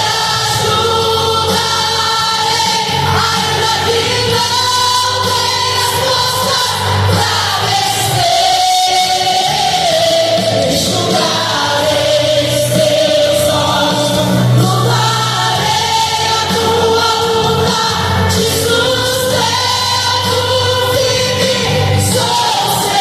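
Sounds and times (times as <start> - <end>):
gospel choir singing: 0.0 - 23.0
steady bass: 0.0 - 23.0.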